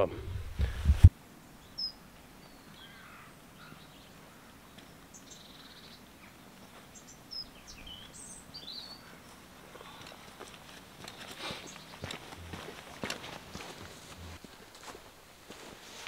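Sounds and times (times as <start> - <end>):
low steady hiss: 0.0 - 16.0
small birds chirping: 1.4 - 14.4.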